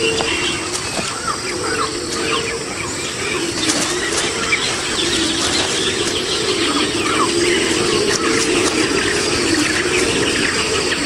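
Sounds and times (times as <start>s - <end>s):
birds chirping: 0.0s - 11.0s
low wavering hum: 0.0s - 11.0s.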